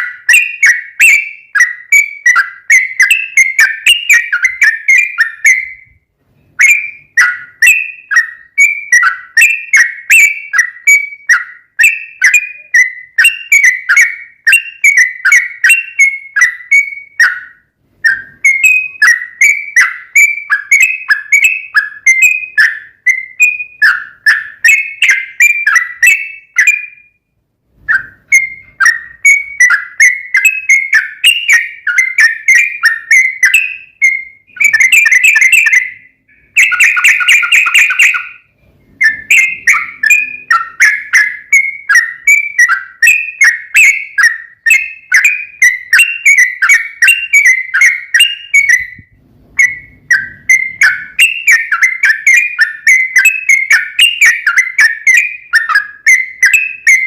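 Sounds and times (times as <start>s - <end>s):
bird chattering whistled notes: 0.0s - 5.9s, 6.6s - 27.2s, 27.9s - 57.0s.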